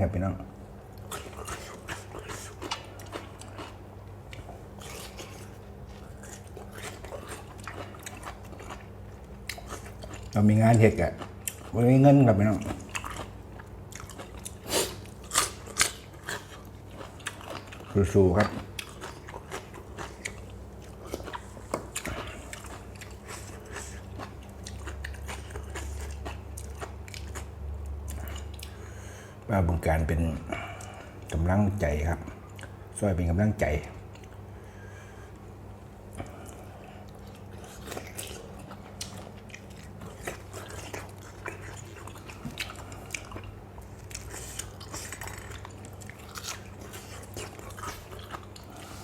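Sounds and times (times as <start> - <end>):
low steady hum: 0.0 - 49.0
person chewing crunchy food: 0.9 - 29.1, 36.0 - 49.0.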